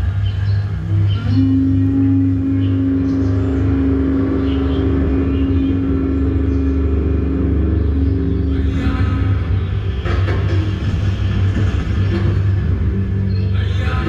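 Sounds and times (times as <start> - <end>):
held low note over drone: 0.0 - 14.0.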